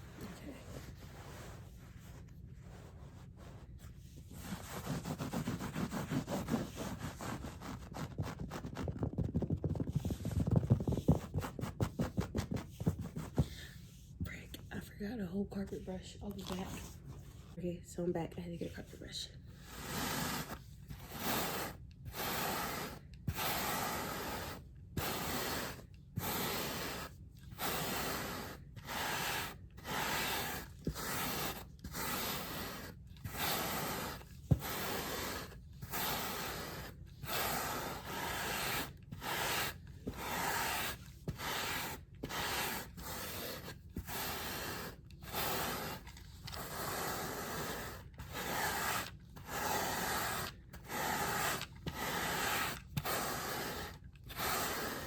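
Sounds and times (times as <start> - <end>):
brush scrubbing a rug: 0.5 - 13.5, 19.6 - 55.0.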